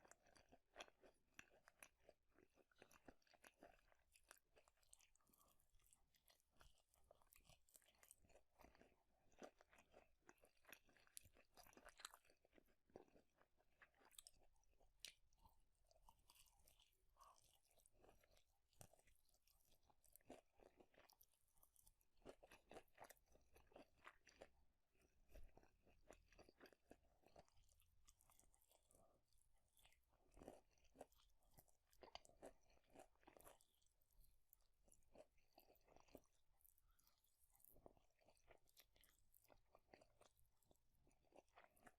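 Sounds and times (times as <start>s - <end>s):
chewing crunchy food: 0.0s - 41.9s.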